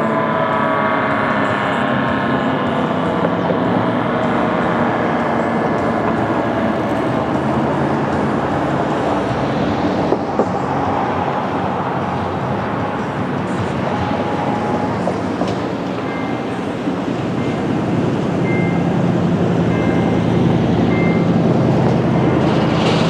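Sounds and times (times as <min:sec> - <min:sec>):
faint warning siren tones: 0:00.0 - 0:22.8
loud rushing noise: 0:00.0 - 0:23.0.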